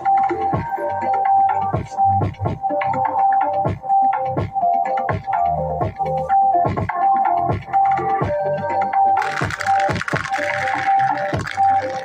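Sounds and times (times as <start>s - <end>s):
electronic music with synth and bass: 0.0s - 12.0s.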